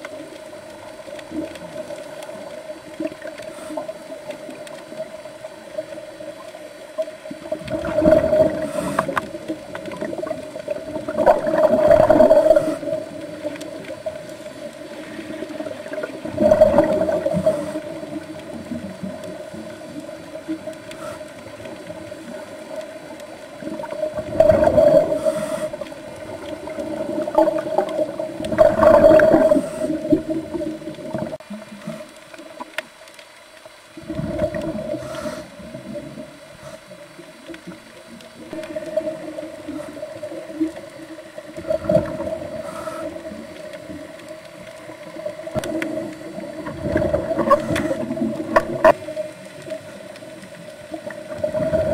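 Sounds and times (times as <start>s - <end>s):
underwater scuba breathing bubbles: 0.0s - 33.0s, 33.9s - 51.9s.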